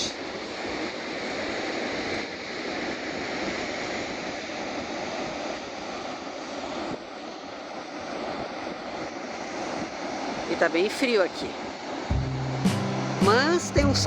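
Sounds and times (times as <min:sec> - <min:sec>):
sea surf breaking on beach: 0:00.0 - 0:13.9.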